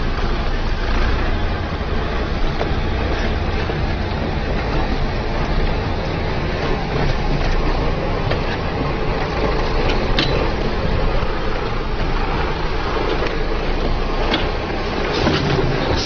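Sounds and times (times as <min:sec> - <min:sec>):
heavy vehicle rumbling: 0:00.0 - 0:16.0
wind noise: 0:00.0 - 0:16.0.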